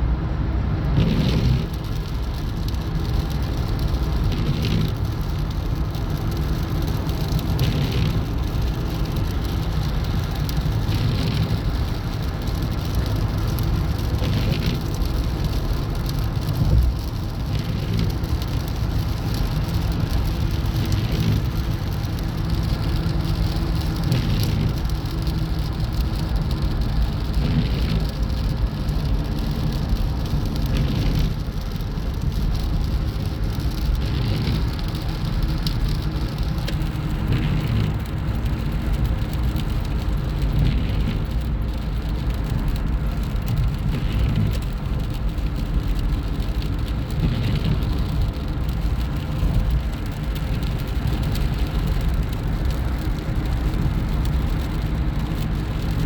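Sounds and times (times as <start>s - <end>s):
moving car rumble and road noise: 0.0s - 56.0s.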